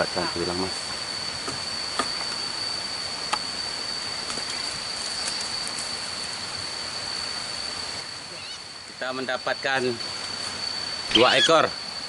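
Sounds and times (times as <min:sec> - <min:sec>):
high-pitched insect drone: 0:00.0 - 0:12.0
outdoor background hiss: 0:00.0 - 0:12.0.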